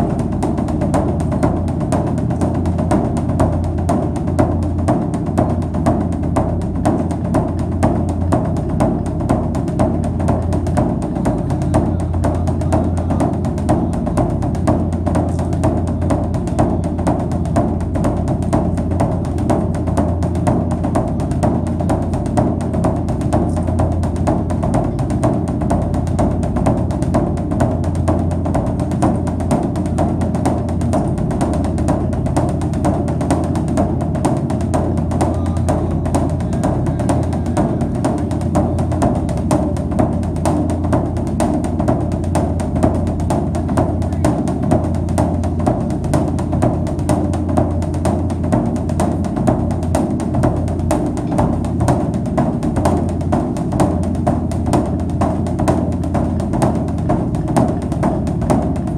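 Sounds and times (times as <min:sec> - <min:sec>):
drum and percussion beats: 0:00.0 - 0:58.9
sustained low bass: 0:00.0 - 0:58.9.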